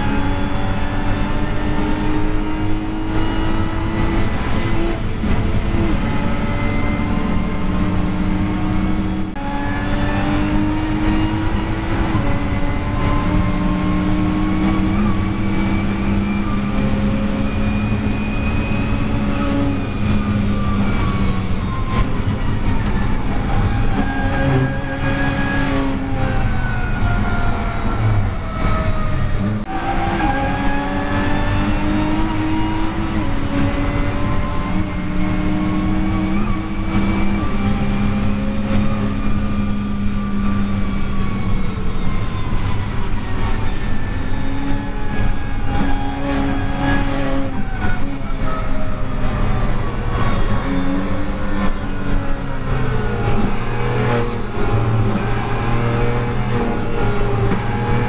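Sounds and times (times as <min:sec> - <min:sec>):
car engine revving: 0:00.0 - 0:58.0
gear changes: 0:00.0 - 0:58.0.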